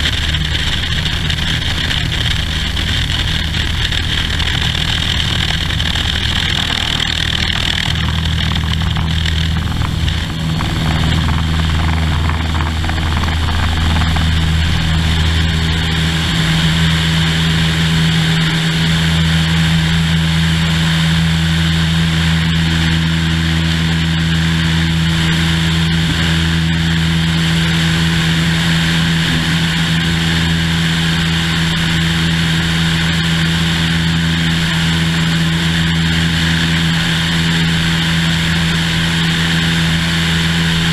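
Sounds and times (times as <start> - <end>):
wind rush: 0.0 - 35.4
propeller plane engine drone: 0.0 - 40.9.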